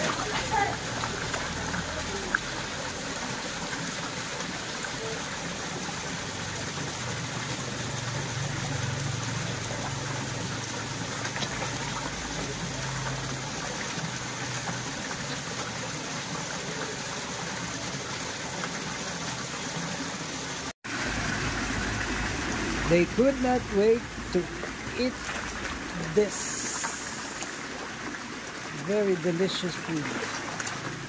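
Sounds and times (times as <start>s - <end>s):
water pouring into pond: 0.0s - 31.0s.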